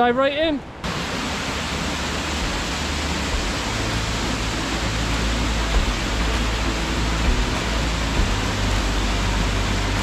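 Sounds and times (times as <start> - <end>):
waterfall rushing: 0.7 - 10.0.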